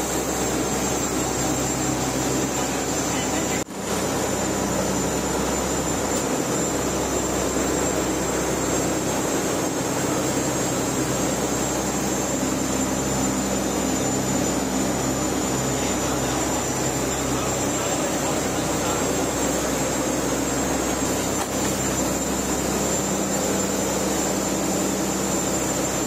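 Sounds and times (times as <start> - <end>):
boat engine low drone: 0.0 - 26.0.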